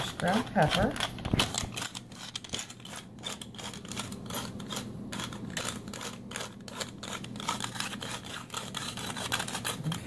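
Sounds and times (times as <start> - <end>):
pepper mill grinding: 0.0 - 10.0.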